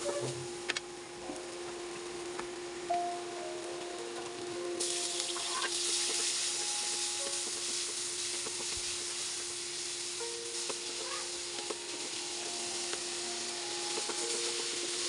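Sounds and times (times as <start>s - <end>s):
tomatoes sizzling in hot oil: 0.0s - 15.0s.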